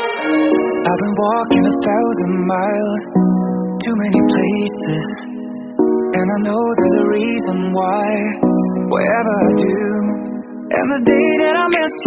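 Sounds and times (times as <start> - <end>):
melody over held chords: 0.0 - 12.0.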